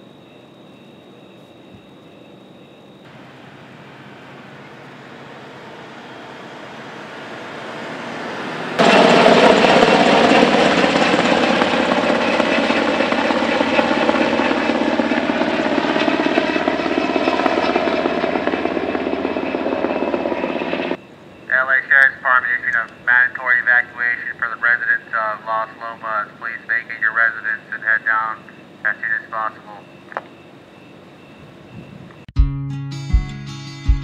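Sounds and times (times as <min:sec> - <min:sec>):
helicopter engine and rotor: 0:00.0 - 0:32.3.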